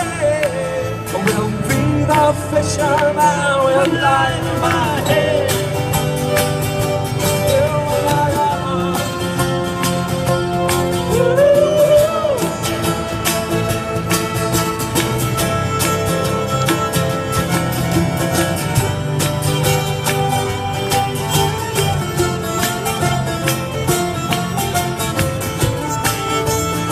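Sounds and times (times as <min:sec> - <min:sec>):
cajon beat: 0:00.0 - 0:26.9
fiddle: 0:00.0 - 0:26.9
strummed guitars: 0:00.0 - 0:26.9.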